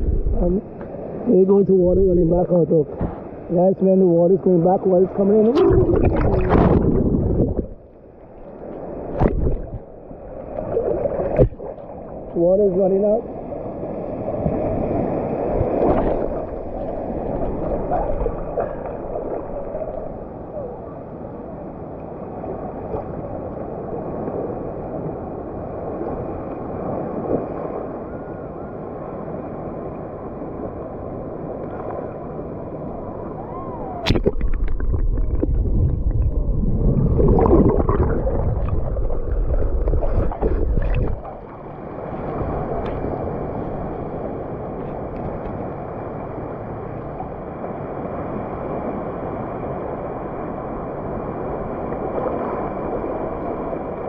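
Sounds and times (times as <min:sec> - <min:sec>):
ocean surf washing up beach: 0:00.0 - 0:54.0.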